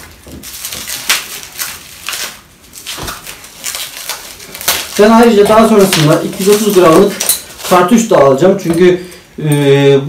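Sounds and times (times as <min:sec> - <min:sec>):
packaging clicking and rustling: 0:00.0 - 0:08.9.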